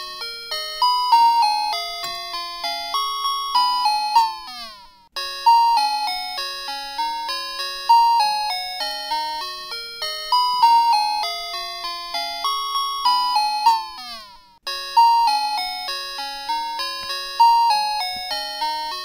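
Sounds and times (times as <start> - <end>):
bell-like chiming melody: 0.0 - 19.0.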